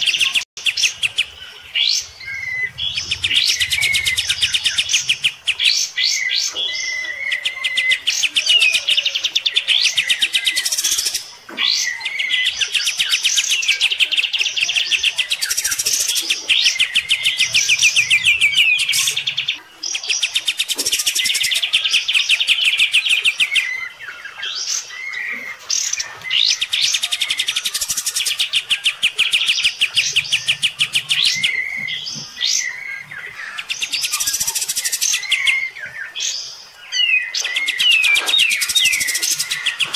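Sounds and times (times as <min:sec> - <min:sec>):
bulbul singing rattling song: 0:00.0 - 0:39.9.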